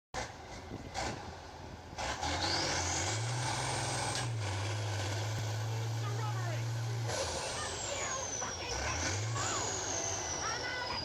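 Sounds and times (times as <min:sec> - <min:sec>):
truck engine revving: 0:00.2 - 0:11.0.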